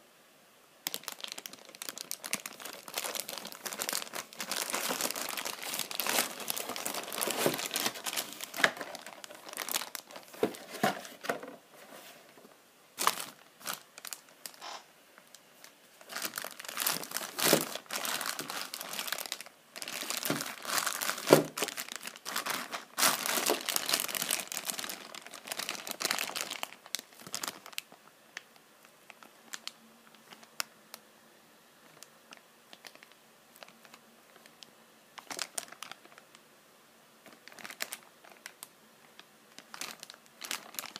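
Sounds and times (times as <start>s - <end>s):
plastic bag crinkling: 0.8s - 28.0s, 29.1s - 30.7s, 31.9s - 34.6s, 35.2s - 36.4s, 37.2s - 40.9s.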